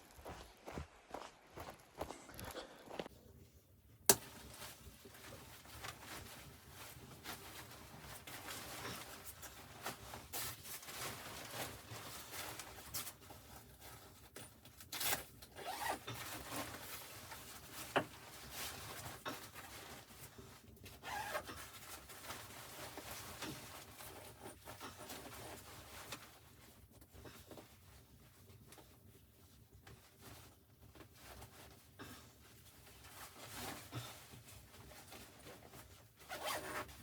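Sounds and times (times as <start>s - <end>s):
rustling and scraping of objects: 0.0s - 37.0s.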